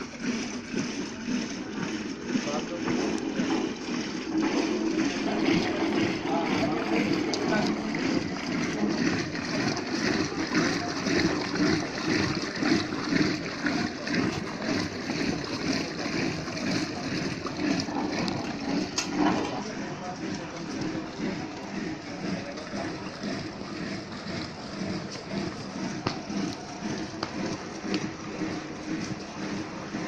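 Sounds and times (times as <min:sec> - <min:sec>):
curd sloshing in churning pot: 0:00.0 - 0:30.0.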